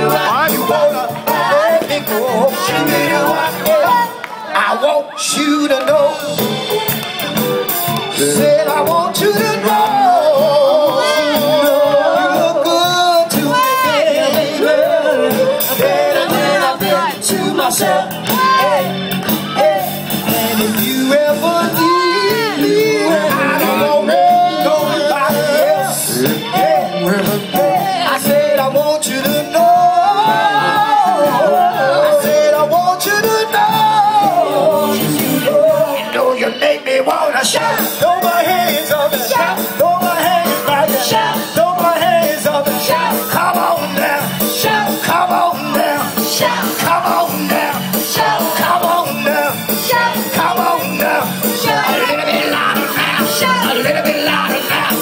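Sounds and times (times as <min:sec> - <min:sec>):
live band playing dance music: 0:00.0 - 0:55.0
voices singing: 0:00.0 - 0:55.0.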